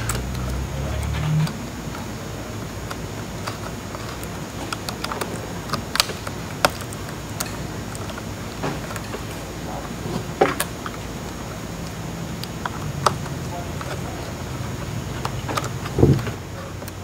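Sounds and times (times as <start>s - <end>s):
fingers clicking ribbon cables into connectors: 0.0s - 17.0s
low hum: 0.0s - 17.0s.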